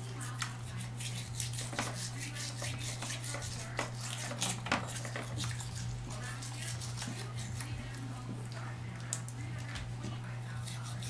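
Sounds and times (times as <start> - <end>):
toothbrush scrubbing teeth: 0.0 - 11.0.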